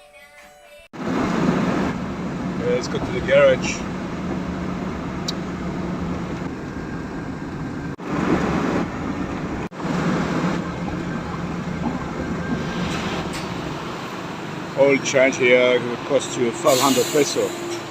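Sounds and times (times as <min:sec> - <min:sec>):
engine humming: 0:01.0 - 0:17.9
road and traffic noise: 0:01.0 - 0:17.9.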